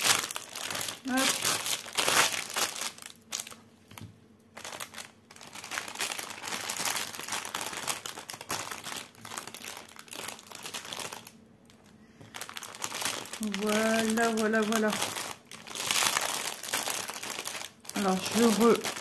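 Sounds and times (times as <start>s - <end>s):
plastic pouch crinkling: 0.0s - 19.0s.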